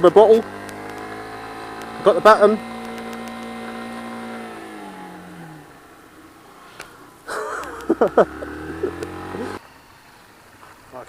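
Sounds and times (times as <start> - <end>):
motorcycle engine running: 0.0 - 9.6
motorcycle engine idling and revving: 0.0 - 10.9.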